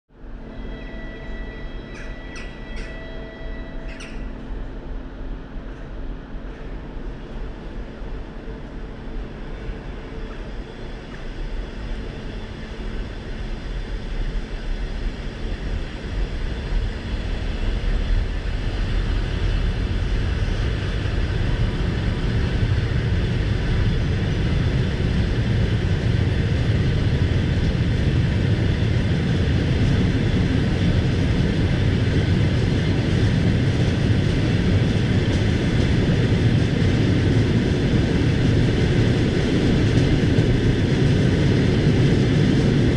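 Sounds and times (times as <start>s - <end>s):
train wheels rumbling on rails: 0.2s - 42.9s.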